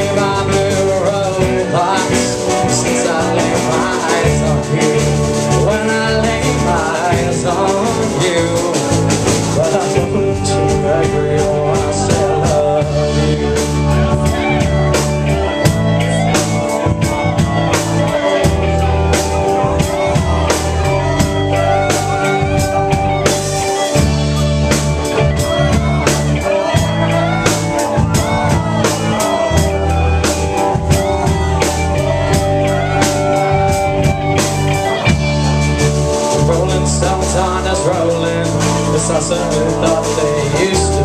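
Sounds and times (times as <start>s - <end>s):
bass guitar notes: 0.0s - 41.0s
electric guitar: 0.0s - 41.0s.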